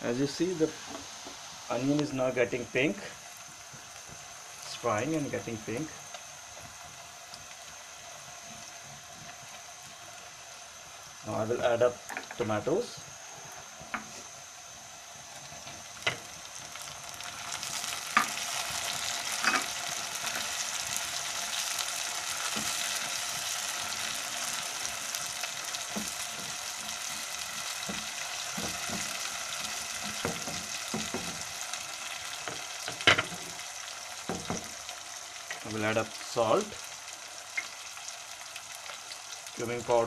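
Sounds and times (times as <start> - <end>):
onions sizzling in hot oil: 0.0 - 40.0.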